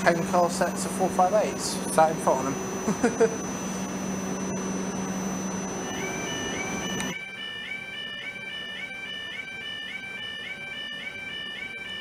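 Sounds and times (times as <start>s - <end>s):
electric train hum: 0.0s - 12.0s
level crossing warning alarm: 0.0s - 12.0s.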